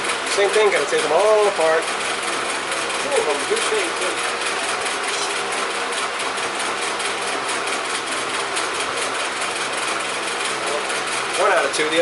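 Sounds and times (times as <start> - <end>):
machine whirring with fast pulse: 0.0 - 12.0.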